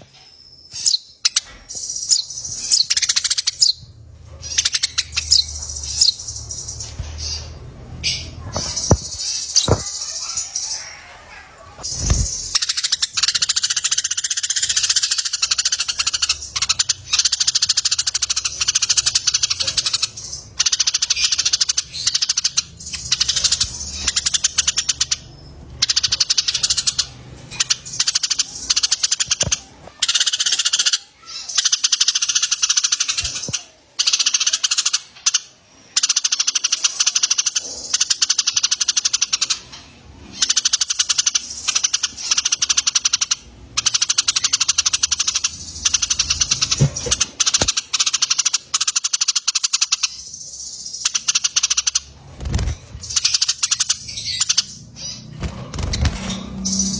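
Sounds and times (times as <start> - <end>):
birds chattering: 0.0 - 56.9.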